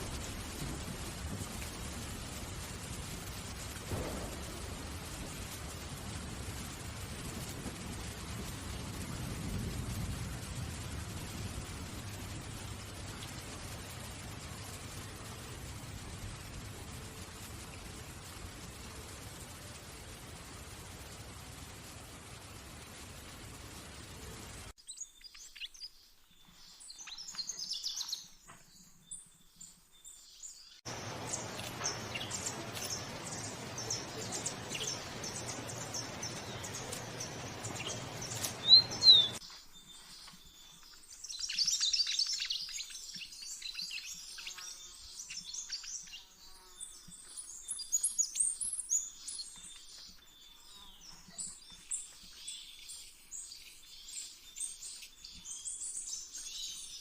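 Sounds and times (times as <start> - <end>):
steady hiss: 0.0 - 57.0
songbirds chirping: 10.3 - 57.0.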